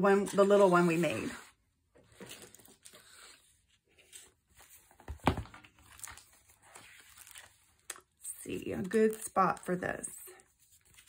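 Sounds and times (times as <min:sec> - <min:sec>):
paper pages rustling and turning: 0:01.9 - 0:11.0.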